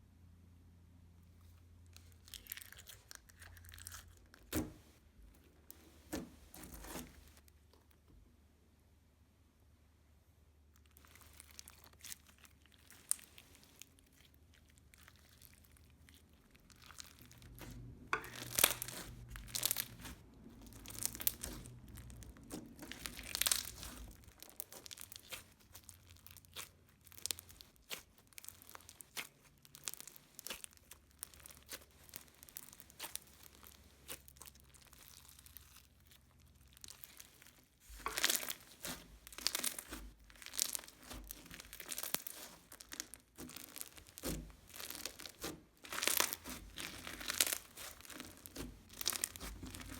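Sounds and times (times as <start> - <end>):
slime popping and crunching: 1.9 - 4.9, 10.8 - 49.9.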